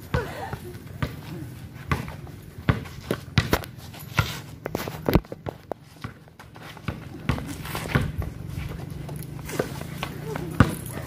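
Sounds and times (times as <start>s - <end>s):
footfalls on hard court: 0.1s - 10.9s
shoe scuffs: 1.8s - 10.9s.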